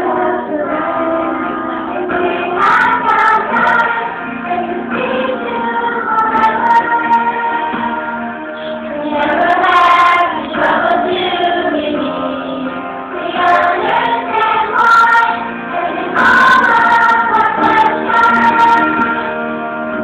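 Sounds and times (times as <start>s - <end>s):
voices singing: 0.0s - 19.5s
musical accompaniment: 0.0s - 20.0s.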